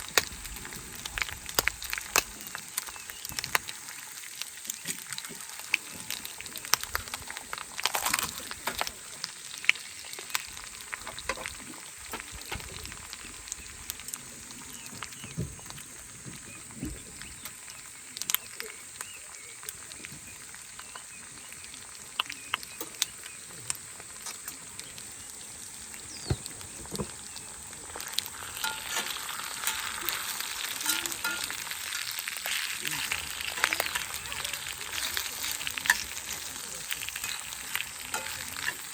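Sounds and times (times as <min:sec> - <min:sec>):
steak sizzling in a skillet: 0:00.0 - 0:38.9.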